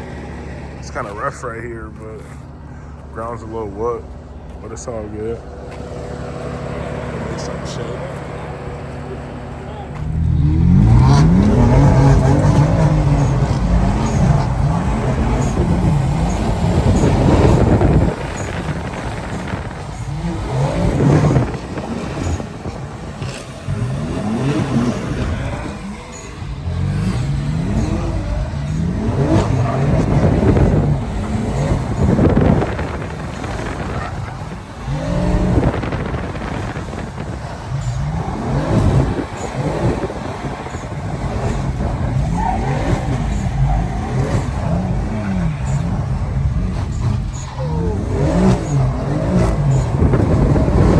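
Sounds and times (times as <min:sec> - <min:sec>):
car engine revving hard: 0:04.7 - 0:50.9.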